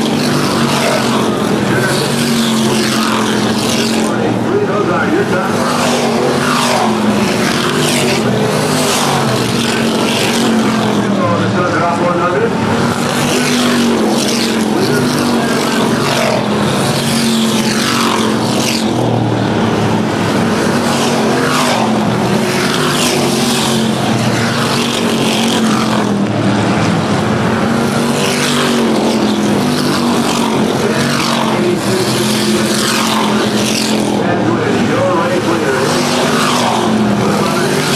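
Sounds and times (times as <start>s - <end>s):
race car engines droning past: 0.0s - 37.9s.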